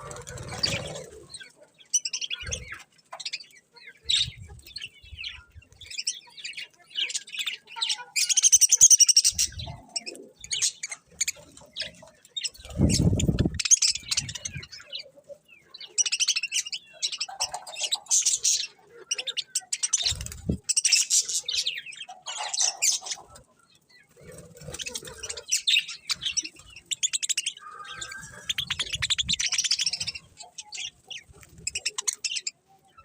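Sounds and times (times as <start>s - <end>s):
budgerigars chirping: 0.0s - 33.0s.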